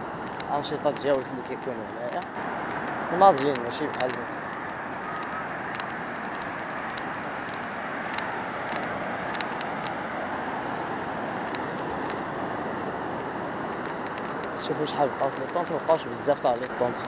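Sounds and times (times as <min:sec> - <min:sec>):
sea surf breaking on beach: 0:00.0 - 0:17.0
faint clicks: 0:00.2 - 0:10.0, 0:11.4 - 0:12.3, 0:13.7 - 0:17.0.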